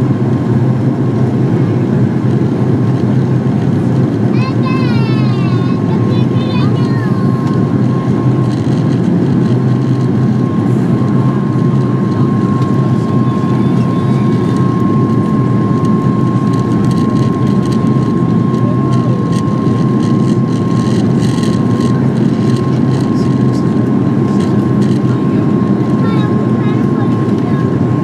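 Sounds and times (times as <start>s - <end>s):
jet engine cabin drone: 0.0s - 28.0s
thin steady whine: 1.6s - 28.0s.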